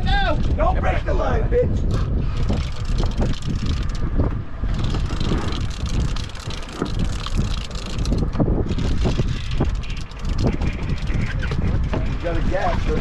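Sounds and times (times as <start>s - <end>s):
wind buffeting microphone: 0.0s - 13.0s
boat engine running: 1.9s - 13.0s.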